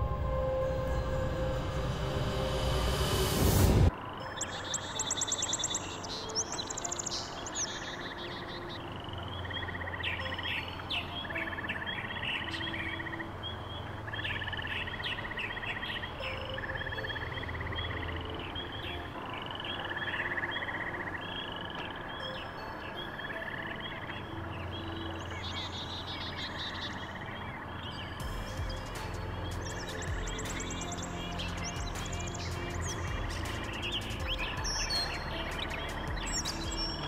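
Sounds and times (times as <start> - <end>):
birds singing: 4.1 - 37.0.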